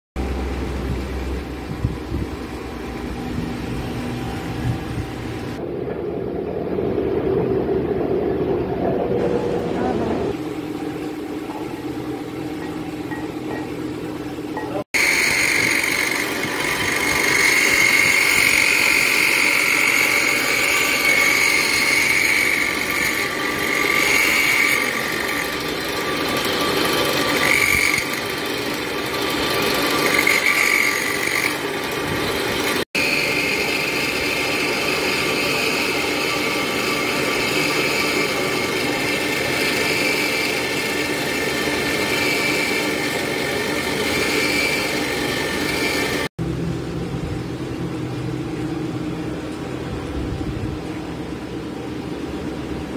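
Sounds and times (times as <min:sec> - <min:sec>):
lathe running: 0:00.2 - 0:46.3
grinding wheel high whine: 0:00.2 - 0:50.4.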